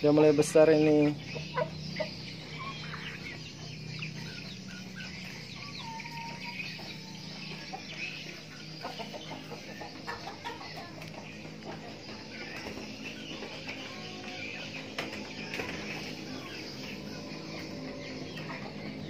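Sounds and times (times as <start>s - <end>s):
chickens calling: 0.0s - 19.0s
steady low hum: 0.0s - 19.0s.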